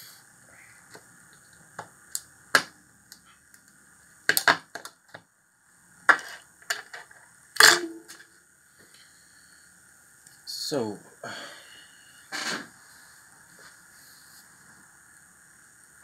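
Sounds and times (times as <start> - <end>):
faint high whine: 0.0 - 4.3, 5.2 - 16.0.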